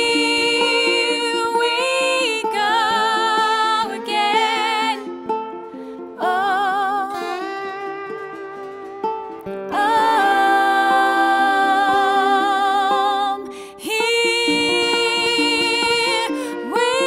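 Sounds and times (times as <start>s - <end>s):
ukulele plucking: 0.0s - 17.0s.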